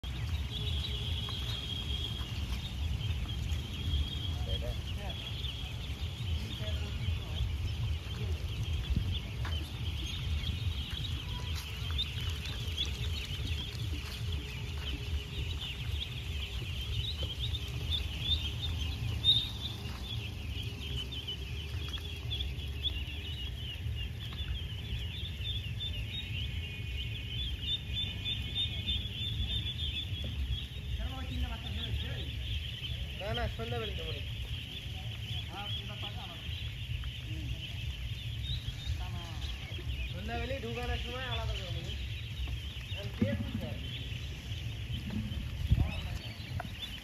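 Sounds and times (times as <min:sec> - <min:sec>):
ducklings peeping: 0:00.0 - 0:47.0.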